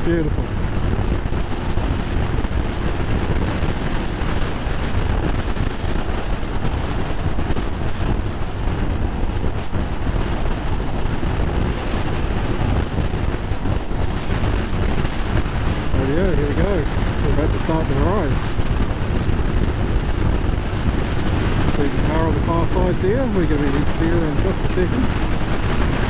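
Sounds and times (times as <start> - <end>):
motorcycle engine: 0.0 - 26.0
road noise: 0.0 - 26.0
wind buffeting microphone: 0.0 - 26.0.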